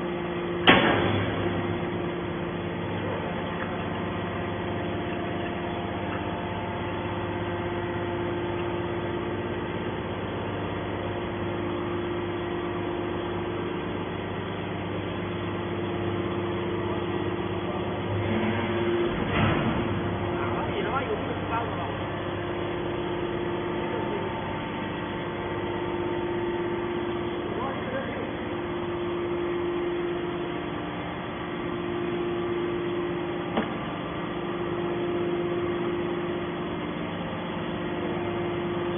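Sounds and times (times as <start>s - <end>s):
hydraulic machine hum: 0.0s - 38.9s.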